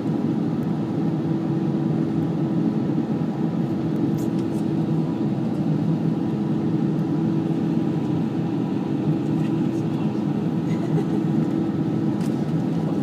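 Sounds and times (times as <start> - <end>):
jet engines low hum: 0.0 - 13.0.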